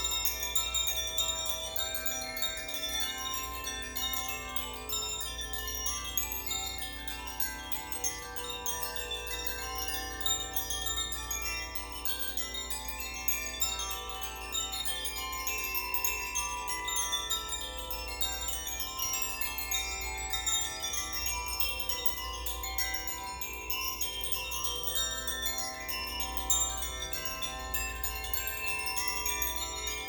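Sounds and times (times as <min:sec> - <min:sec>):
wind chimes ringing: 0:00.0 - 0:30.0.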